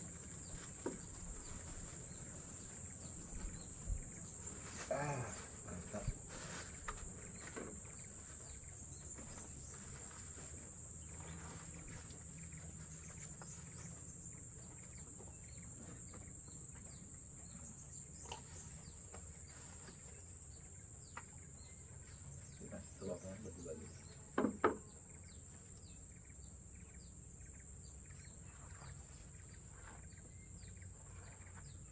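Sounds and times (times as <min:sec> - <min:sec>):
forest insects droning: 0:00.0 - 0:31.9.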